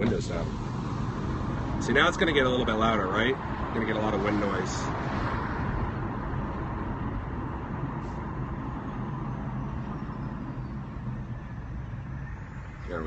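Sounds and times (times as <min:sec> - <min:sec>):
road noise: 0:00.0 - 0:13.0
wind rushing through car windows: 0:00.0 - 0:13.0.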